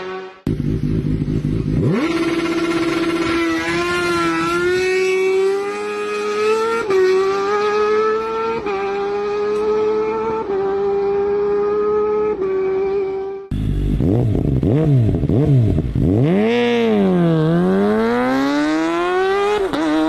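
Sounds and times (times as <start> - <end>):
motorcycle engine pulling hard: 0.4 - 20.0.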